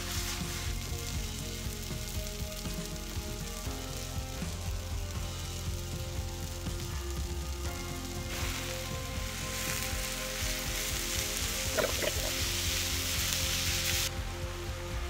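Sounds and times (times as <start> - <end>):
food sizzling in a pan: 0.0 - 14.9.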